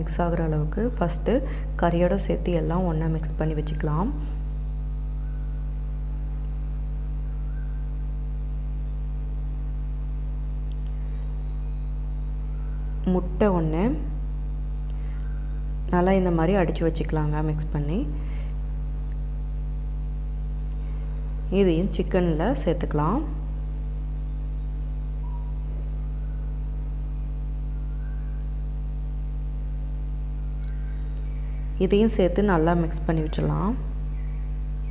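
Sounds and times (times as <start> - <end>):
electrical mains hum: 0.0 - 34.9.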